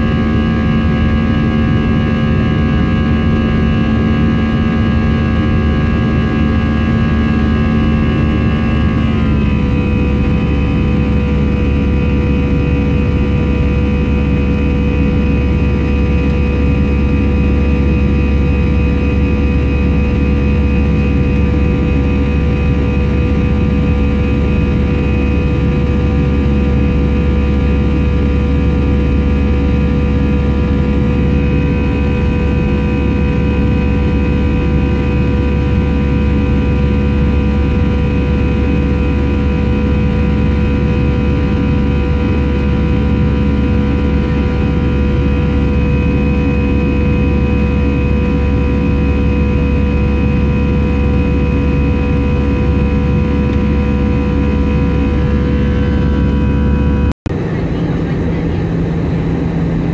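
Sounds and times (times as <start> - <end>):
whining tones: 0.0 - 57.2
airliner engine and air drone: 0.0 - 59.9.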